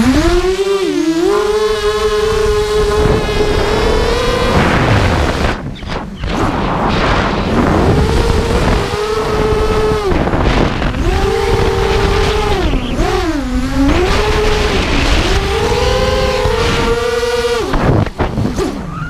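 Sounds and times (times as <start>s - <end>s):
drone motors whining: 0.0s - 19.0s
wind on microphone: 0.0s - 19.0s.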